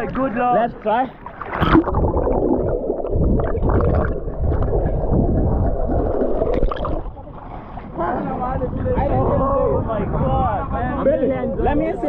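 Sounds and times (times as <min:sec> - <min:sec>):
underwater rumble and gurgling: 0:01.1 - 0:12.0.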